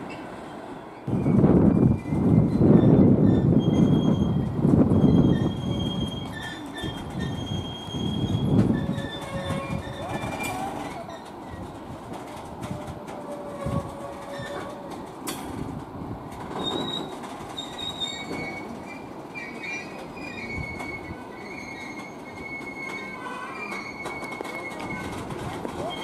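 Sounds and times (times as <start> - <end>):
train wheels squealing: 0.9 - 11.8, 13.3 - 14.9, 16.5 - 26.0
wagons clanking over track: 1.1 - 26.0.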